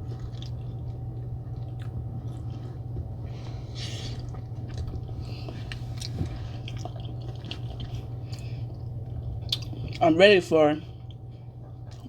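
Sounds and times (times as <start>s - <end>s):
wet chewing and smacking: 0.0s - 10.3s, 10.9s - 12.0s
steady low hum: 0.0s - 12.0s.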